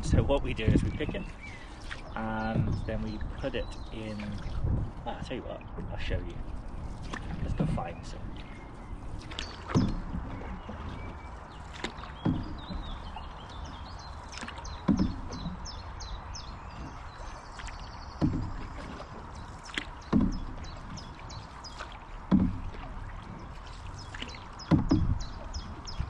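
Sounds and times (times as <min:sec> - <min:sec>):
background noise wash: 0:00.0 - 0:26.0
canoe paddle strokes in water: 0:00.0 - 0:26.0.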